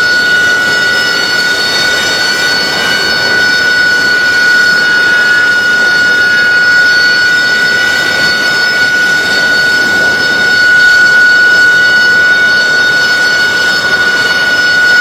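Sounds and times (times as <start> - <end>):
jet engine idling whine: 0.0 - 15.0.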